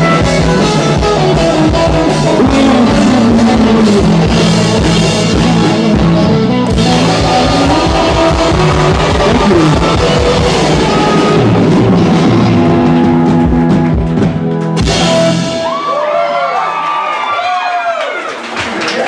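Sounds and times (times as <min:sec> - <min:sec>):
drum kit: 0:00.0 - 0:16.2
live rock band playing: 0:00.0 - 0:16.3
electric guitar: 0:00.0 - 0:16.6.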